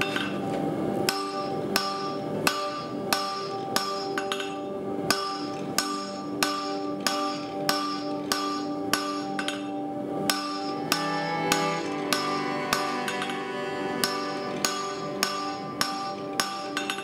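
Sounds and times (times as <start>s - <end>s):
background music: 0.0s - 17.0s
hammer striking steel on anvil: 1.1s - 17.0s.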